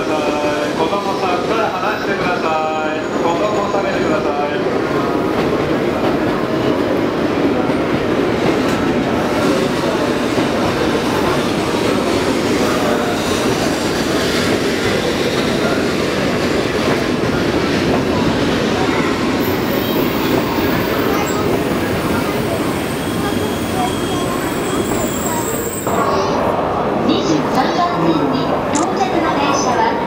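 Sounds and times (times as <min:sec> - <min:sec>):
train wheels rumbling on rail: 0:00.0 - 0:27.8.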